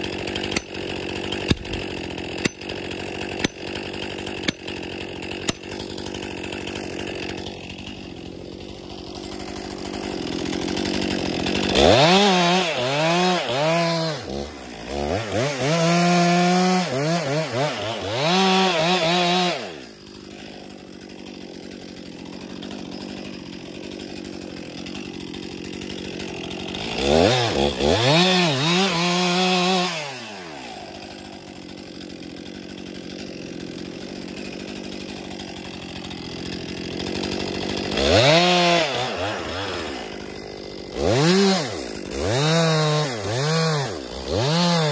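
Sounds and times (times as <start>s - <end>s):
chainsaw idling and revving: 0.0s - 44.9s.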